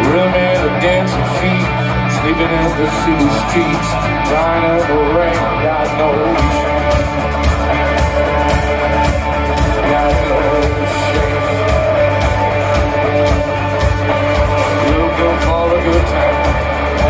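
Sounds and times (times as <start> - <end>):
bass guitar: 0.0 - 17.0
drums with steady beat: 0.0 - 17.0
electric guitar: 0.0 - 17.0
person singing: 0.0 - 17.0.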